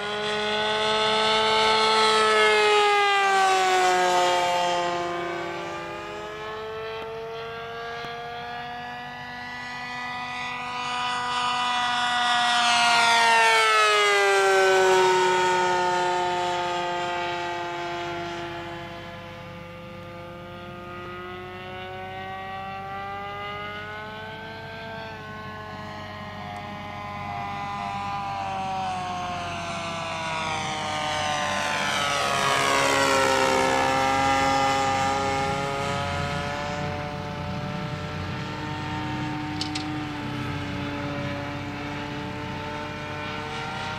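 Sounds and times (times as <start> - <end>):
model plane engine flying by: 0.0 - 43.9.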